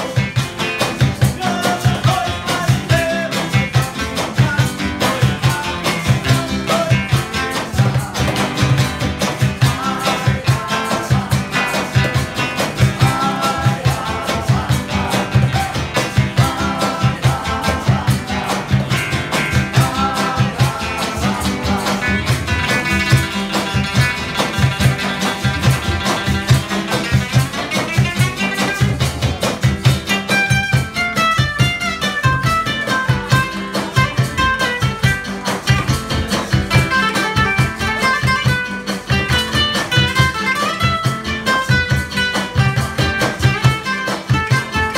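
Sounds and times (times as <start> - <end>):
acoustic guitars strumming: 0.0 - 44.9
cajon beat: 0.0 - 44.9.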